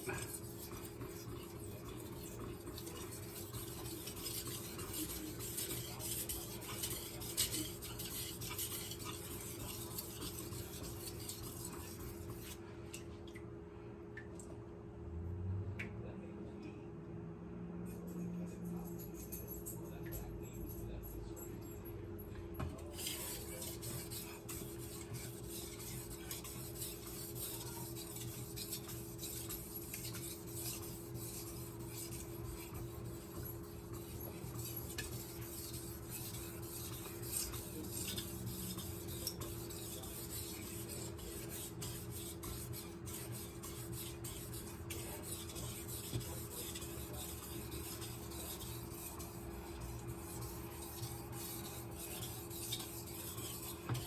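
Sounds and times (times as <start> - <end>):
knife scraping on whetstone: 0.0 - 12.6, 22.9 - 54.0.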